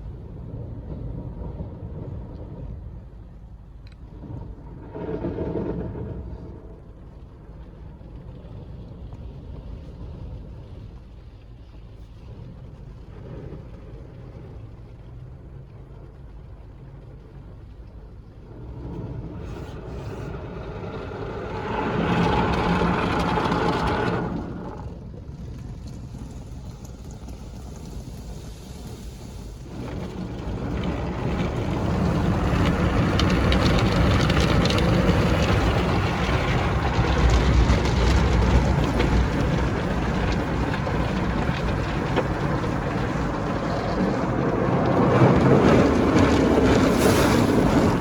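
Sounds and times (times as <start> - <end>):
car wash machine rumbling: 0.0 - 48.0
rushing wash noise: 0.0 - 48.0.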